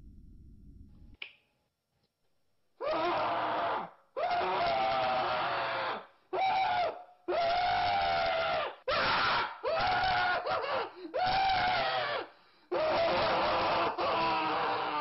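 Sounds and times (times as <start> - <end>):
cartoon character screaming: 2.8 - 15.0.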